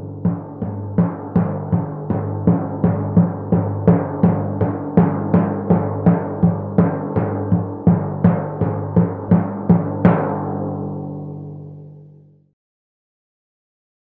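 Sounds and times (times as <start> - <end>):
low pitched drum hits: 0.0 - 11.3.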